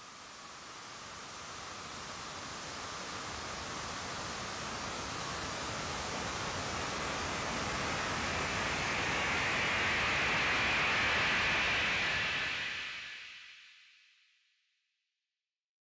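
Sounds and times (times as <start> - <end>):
hiss-like noise music: 0.0 - 14.2.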